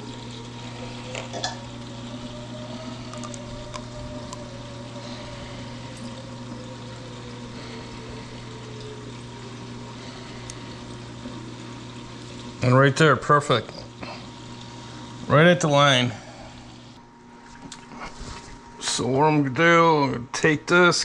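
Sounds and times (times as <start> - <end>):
circulating water rushing: 0.0 - 19.0
aquarium pumps humming: 0.0 - 21.0.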